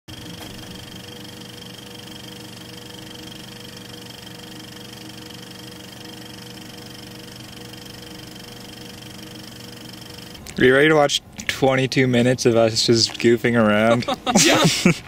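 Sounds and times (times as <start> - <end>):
film mechanism whirring: 0.1 - 14.7
steady hum: 0.1 - 15.0.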